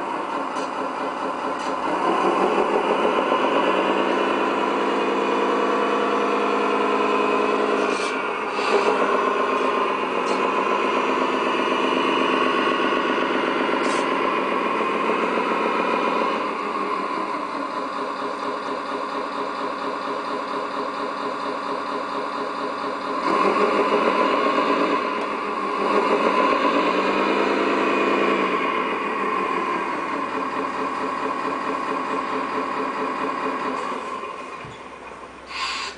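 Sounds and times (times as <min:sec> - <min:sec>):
simulated truck engine from small speaker: 0:00.0 - 0:35.9.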